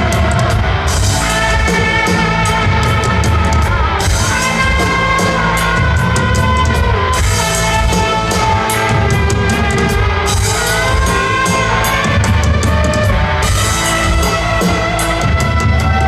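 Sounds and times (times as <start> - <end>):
electric guitar bending notes: 0.0 - 16.0
live rock band playing: 0.0 - 16.0.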